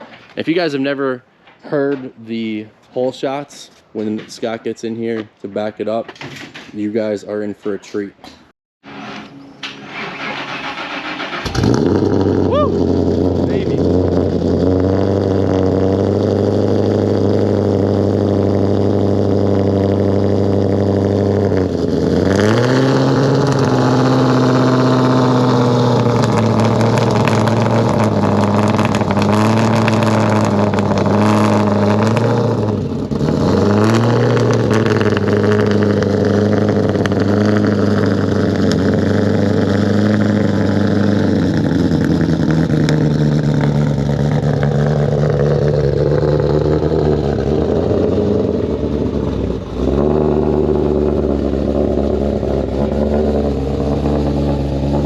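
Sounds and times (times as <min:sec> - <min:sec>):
car engine revving: 0:08.9 - 0:55.0.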